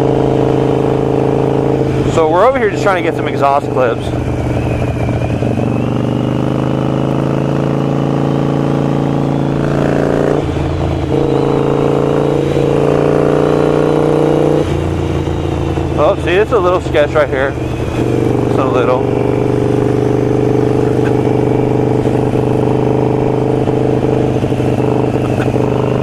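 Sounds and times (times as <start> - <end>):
motorcycle exhaust while riding: 0.0 - 26.0.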